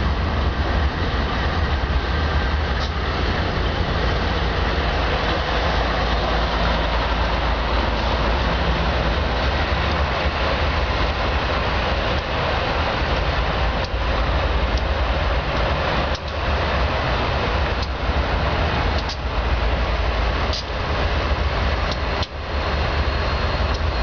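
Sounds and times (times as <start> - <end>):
diesel locomotive engines droning: 0.0 - 24.0
wheels rumbling on rail: 0.0 - 24.0.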